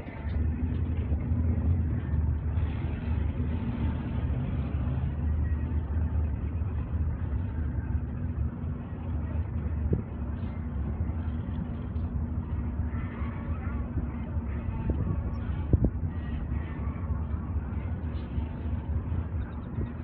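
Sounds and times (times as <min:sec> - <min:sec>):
distant engines rumbling: 0:00.0 - 0:20.0
faint steady hum: 0:00.0 - 0:20.0.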